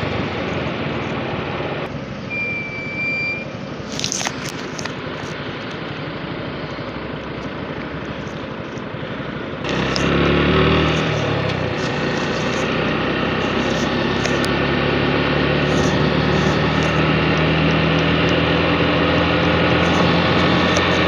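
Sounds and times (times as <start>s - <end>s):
motorcycle engine: 3.5s - 21.0s.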